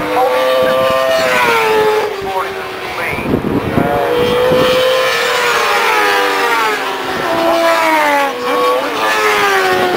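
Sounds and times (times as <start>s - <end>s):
distant racing motorcycle engines: 0.0s - 9.9s.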